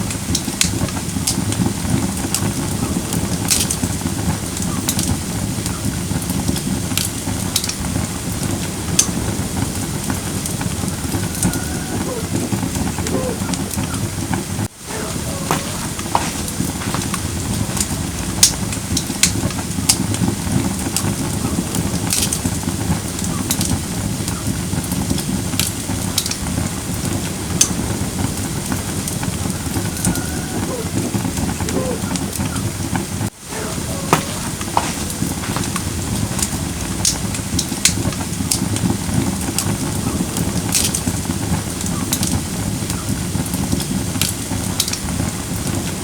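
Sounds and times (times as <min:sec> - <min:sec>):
firewood crackling and popping: 0:00.0 - 0:46.0
flames rushing: 0:00.0 - 0:46.0.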